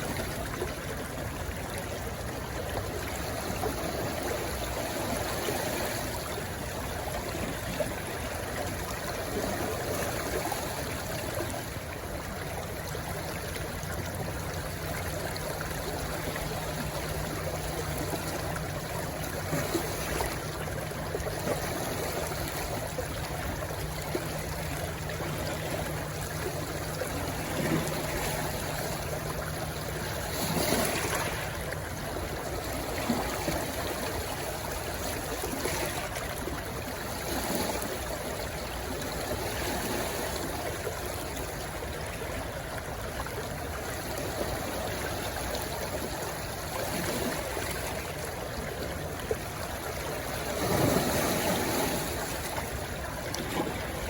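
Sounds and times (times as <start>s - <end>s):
stream rushing and splashing: 0.0s - 54.0s.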